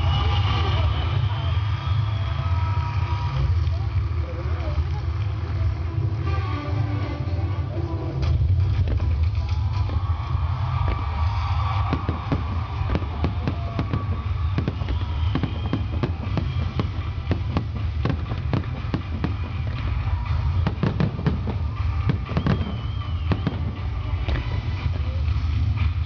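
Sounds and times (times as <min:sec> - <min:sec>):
fireworks bangs and crackles: 0:00.0 - 0:07.3, 0:08.0 - 0:26.0.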